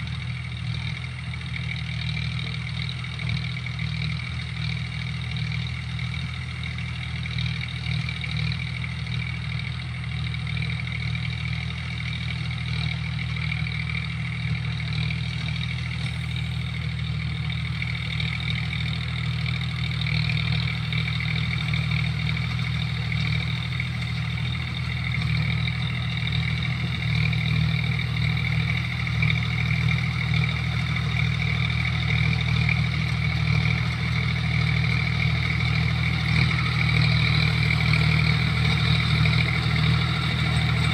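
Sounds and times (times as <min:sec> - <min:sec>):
rotavator high whine: 0:00.0 - 0:40.9
tractor diesel engine running: 0:00.0 - 0:40.9.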